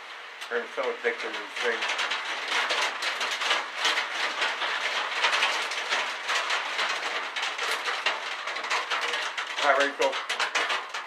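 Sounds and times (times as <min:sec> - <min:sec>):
rain pattering on a roof: 0:00.0 - 0:11.0.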